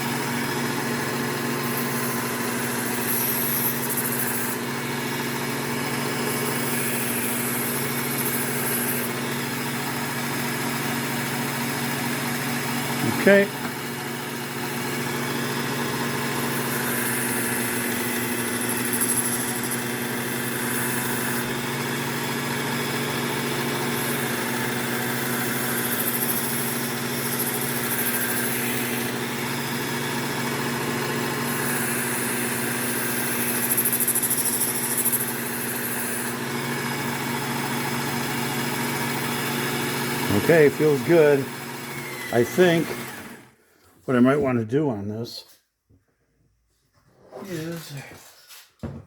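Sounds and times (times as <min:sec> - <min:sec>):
belt sharpener motor humming: 0:00.0 - 0:43.6.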